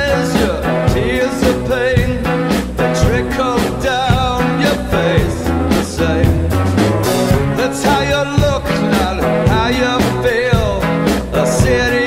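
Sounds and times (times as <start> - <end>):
rock music with singing: 0.0 - 12.0.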